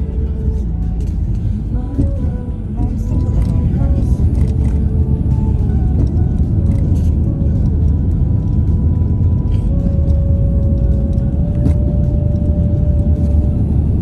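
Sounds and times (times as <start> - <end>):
car rumbling on the move: 0.0 - 14.0
music with long held notes: 0.0 - 14.0.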